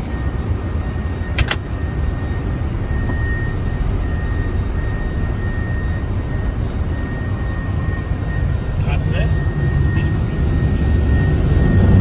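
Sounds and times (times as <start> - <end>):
engine and airflow rumble: 0.0 - 12.0.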